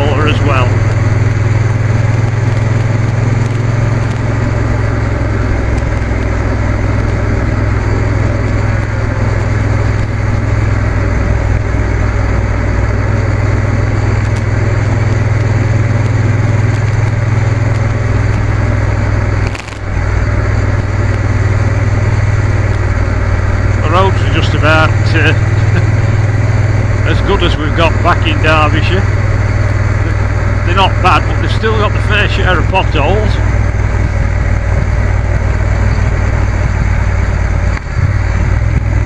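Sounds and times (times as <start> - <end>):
motorcycle engine cruising: 0.0 - 39.0
wind and road noise: 0.0 - 39.0.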